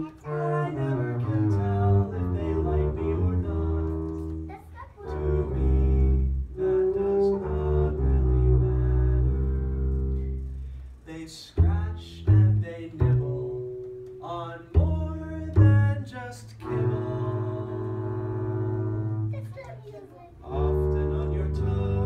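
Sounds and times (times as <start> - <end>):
double bass playing: 0.0 - 19.6, 20.4 - 22.0.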